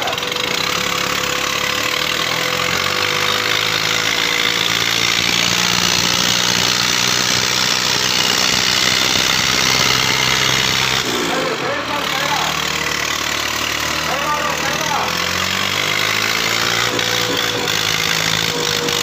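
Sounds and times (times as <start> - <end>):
diesel tractor engines under load: 0.0 - 19.0.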